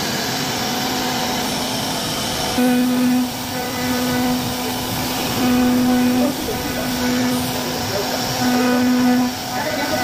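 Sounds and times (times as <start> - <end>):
wood carving machine whining: 0.1 - 10.0.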